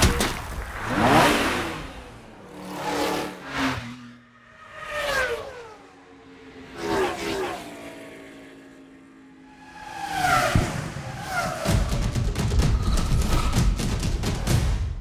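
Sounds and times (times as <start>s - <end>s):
fast vehicles zooming past: 0.6s - 13.6s.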